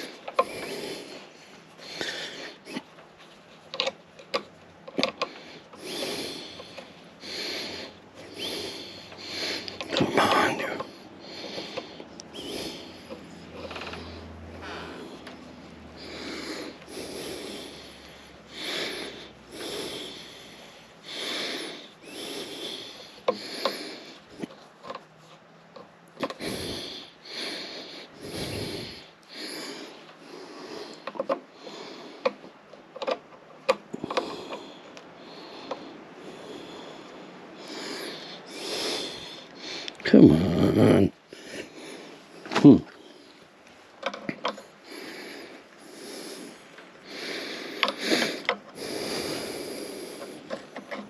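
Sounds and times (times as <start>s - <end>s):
man breathing hard through nose: 0.0s - 51.0s.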